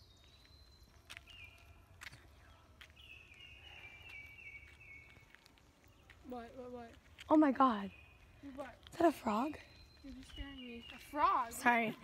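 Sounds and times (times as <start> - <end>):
birds whistling and trilling: 0.0 - 12.0.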